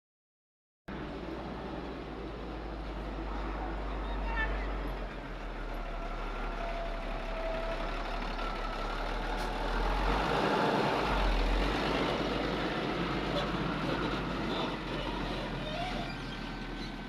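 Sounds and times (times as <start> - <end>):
heavy diesel machinery engine: 0.9 - 17.0.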